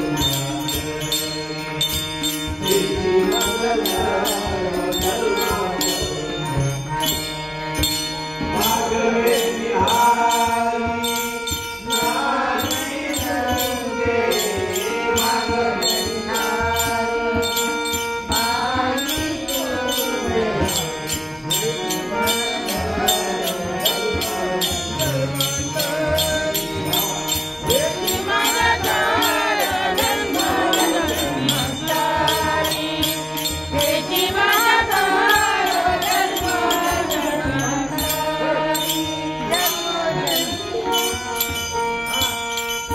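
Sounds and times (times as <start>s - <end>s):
elderly man singing: 0.0s - 42.9s.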